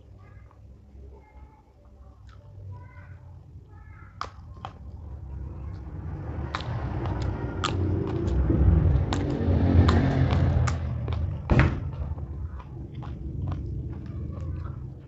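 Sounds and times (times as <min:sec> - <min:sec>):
wet chewing: 0:01.8 - 0:02.7, 0:03.6 - 0:15.0.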